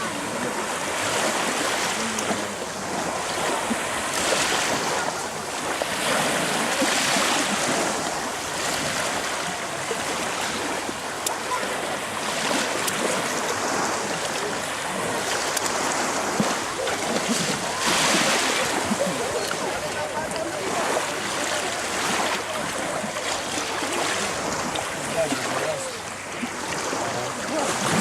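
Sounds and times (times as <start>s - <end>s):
sea waves splashing: 0.0s - 28.0s.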